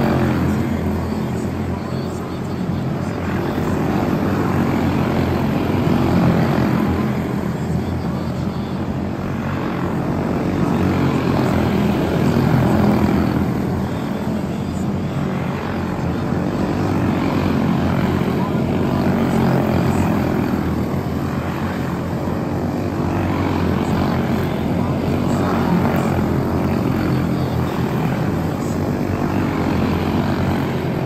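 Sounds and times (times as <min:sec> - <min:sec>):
race car engines buzzing: 0:00.0 - 0:31.0.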